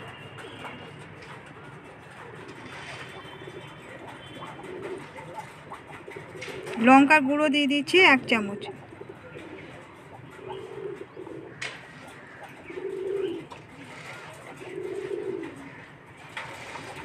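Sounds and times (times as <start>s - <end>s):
pigeon cooing: 0.0s - 6.9s, 8.4s - 17.0s.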